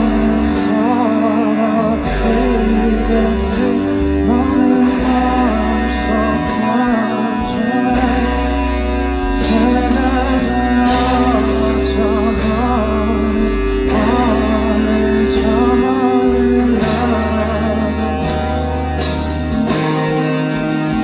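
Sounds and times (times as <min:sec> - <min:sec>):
wavering vocal melody: 0:00.0 - 0:19.8
plucked guitar: 0:00.0 - 0:21.0
sustained bass: 0:00.0 - 0:21.0.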